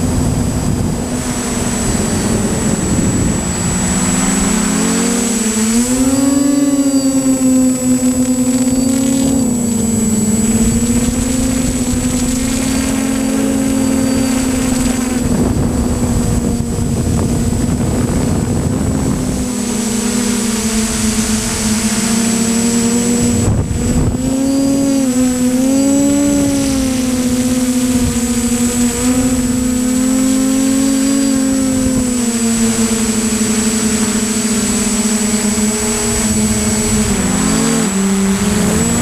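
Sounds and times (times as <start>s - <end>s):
drone propellers buzzing: 0.0s - 39.0s
wind rushing over microphone: 0.0s - 39.0s.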